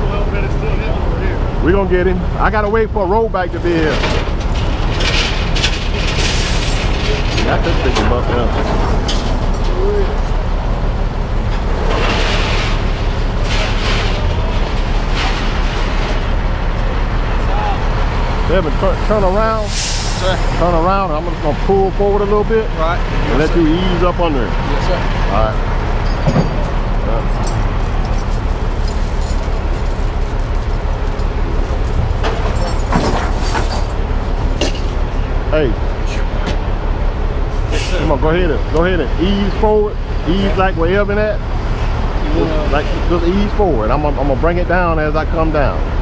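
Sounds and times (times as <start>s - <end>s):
diesel truck engine rumbling: 0.0s - 46.0s.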